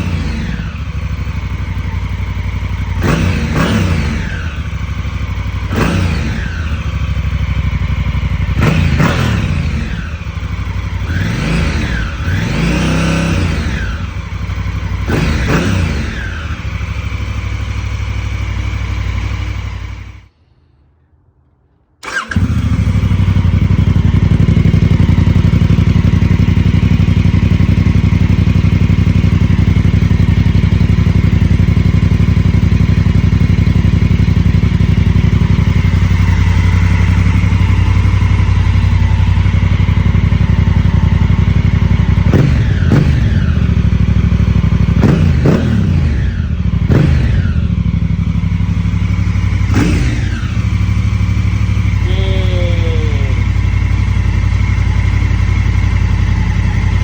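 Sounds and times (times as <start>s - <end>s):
motorcycle engine idling and revving: 0.0s - 20.3s, 22.0s - 57.0s.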